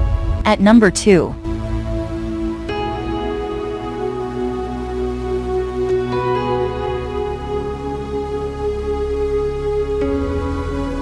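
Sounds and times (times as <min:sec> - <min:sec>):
soft new-age music: 0:00.5 - 0:11.0.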